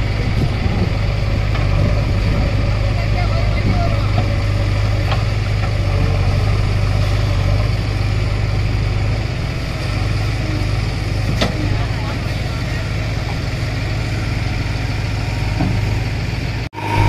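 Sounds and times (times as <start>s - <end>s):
backhoe digging mud: 0.0s - 17.0s
diesel engine running: 0.0s - 17.0s.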